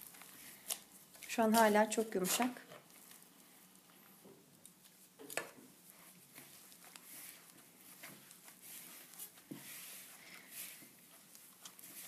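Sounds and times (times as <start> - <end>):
squishing dough and rustling glove: 0.0 - 12.0.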